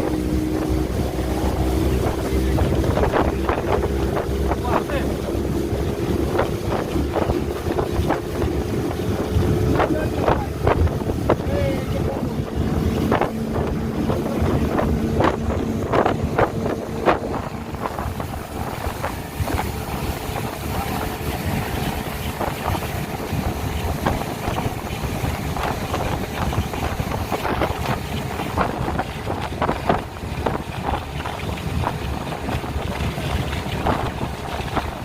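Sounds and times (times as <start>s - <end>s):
speedboat engine rumble: 0.0s - 35.0s
steady engine tone: 0.0s - 35.0s
wind on microphone: 0.0s - 35.0s.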